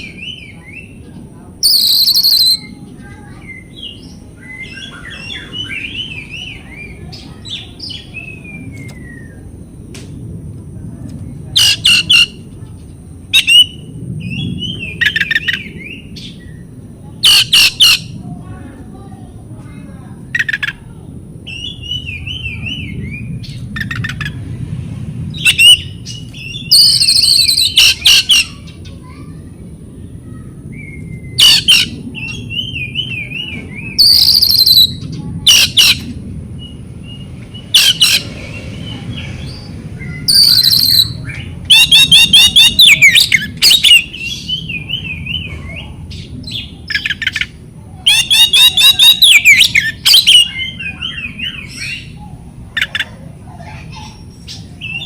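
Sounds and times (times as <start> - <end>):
bird singing varied song: 0.0 - 10.2, 11.2 - 18.2, 20.3 - 24.4, 25.3 - 29.2, 30.0 - 55.0.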